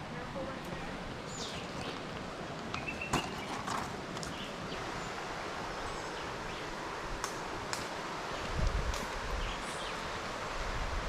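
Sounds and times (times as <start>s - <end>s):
rustling hiss: 0.0s - 11.0s.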